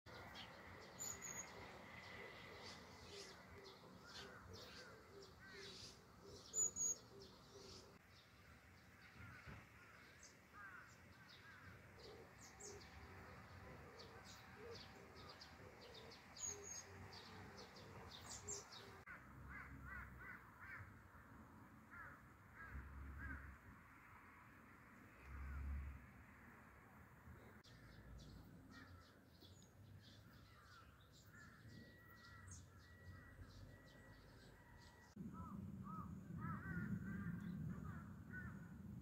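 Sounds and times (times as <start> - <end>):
wild birds chirping: 0.1 - 39.0.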